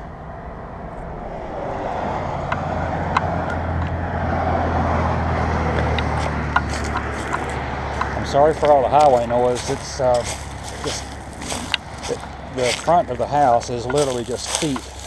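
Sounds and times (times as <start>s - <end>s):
vehicle passing on highway: 0.0s - 15.0s.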